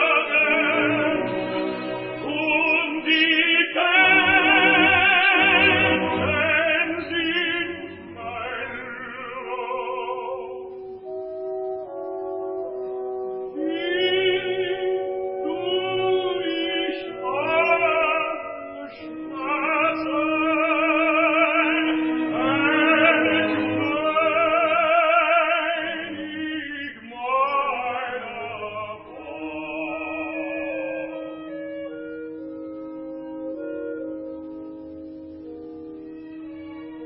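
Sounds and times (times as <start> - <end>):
orchestra holding chords: 0.0 - 26.8, 28.0 - 37.0
operatic tenor singing: 0.0 - 34.8.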